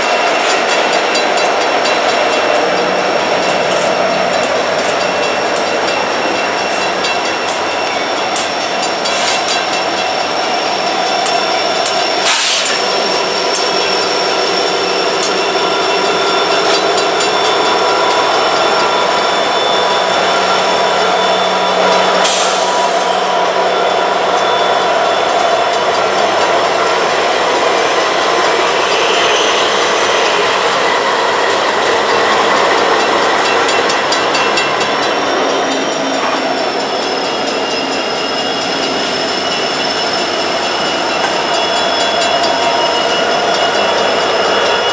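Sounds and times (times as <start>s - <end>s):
diesel locomotive engines whining: 0.0s - 44.9s
wheels clacking over rails: 0.0s - 44.9s.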